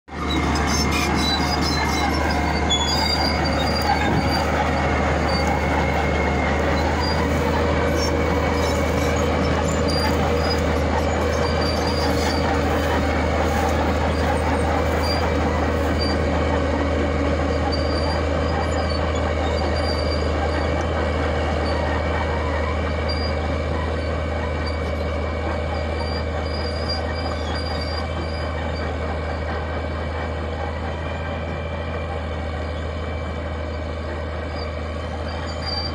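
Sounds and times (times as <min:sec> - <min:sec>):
diesel engine droning: 0:00.1 - 0:35.9
metallic squeaks from steel tracks: 0:00.1 - 0:35.9.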